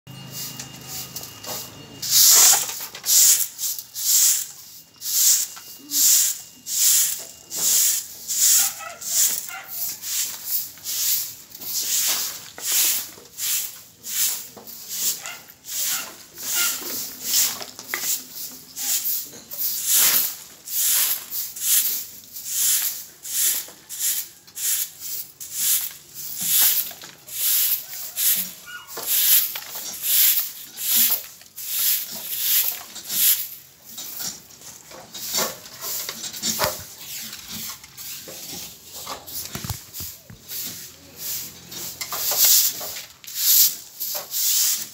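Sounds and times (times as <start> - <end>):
broom sweeping pavement: 0.1 - 44.9.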